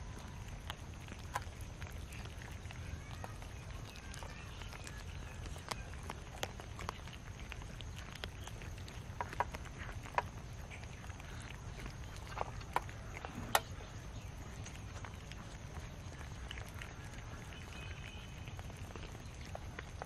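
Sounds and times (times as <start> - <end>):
cats chewing and lapping: 0.0 - 20.0
low background rumble: 0.0 - 20.0.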